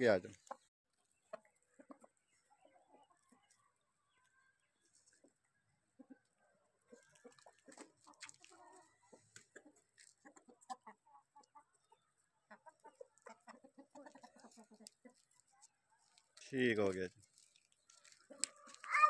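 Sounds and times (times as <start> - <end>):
chickens clucking: 0.0 - 18.9.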